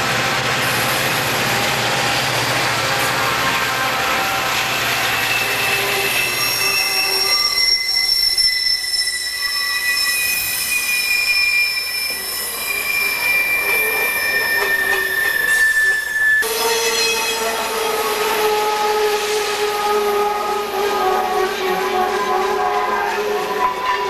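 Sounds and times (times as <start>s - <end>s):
diesel locomotive drone: 0.0s - 24.0s
rumble of freight cars: 0.0s - 24.0s
train wheels squealing on rails: 0.0s - 24.0s.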